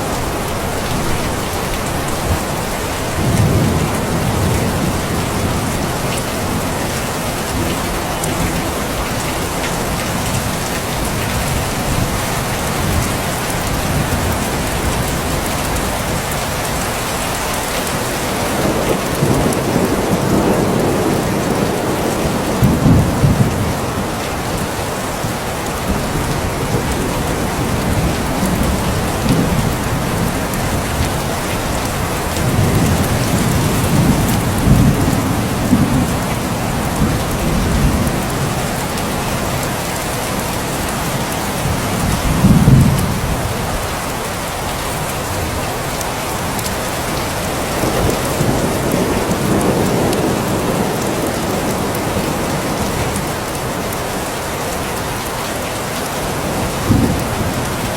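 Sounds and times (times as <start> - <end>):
thunder rumbles: 0.0 - 16.9, 17.9 - 44.1, 46.4 - 53.7, 56.3 - 57.9
steady rain falling: 0.0 - 57.9.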